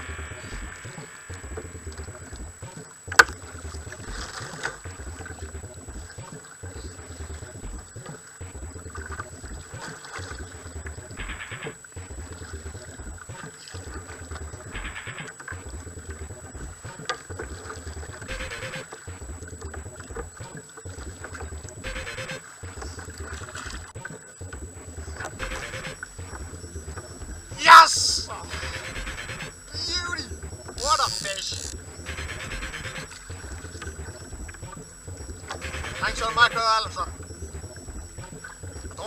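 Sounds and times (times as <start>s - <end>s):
water lapping against kayak hull: 0.0s - 39.0s.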